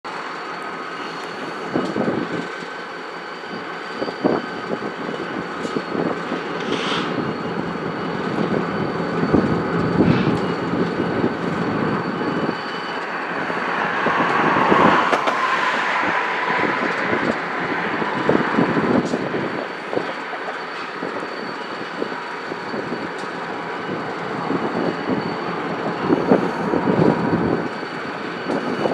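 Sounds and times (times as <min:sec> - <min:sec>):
train wheels rumbling on rail: 0:00.1 - 0:28.9
faint high squeals: 0:00.2 - 0:28.9
train cars clanking: 0:03.4 - 0:28.9.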